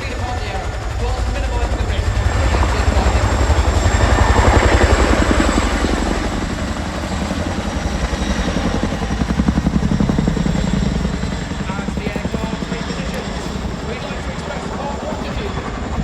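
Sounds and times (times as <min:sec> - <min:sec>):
helicopter rotors thudding: 0:00.0 - 0:16.0.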